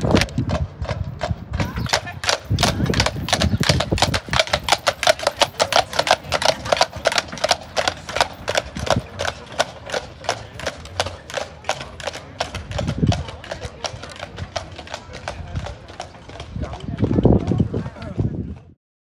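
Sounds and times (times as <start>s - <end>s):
hooves clip-clopping on asphalt: 0.0s - 18.8s.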